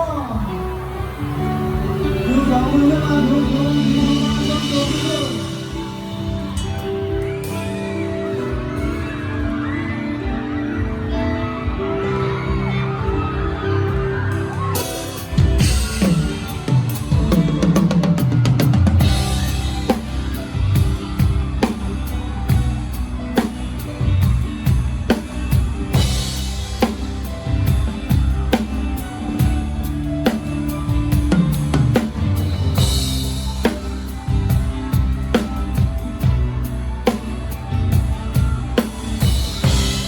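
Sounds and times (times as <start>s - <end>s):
drum kit playing: 0.0s - 11.9s, 13.9s - 40.0s
band holding notes: 0.0s - 40.0s.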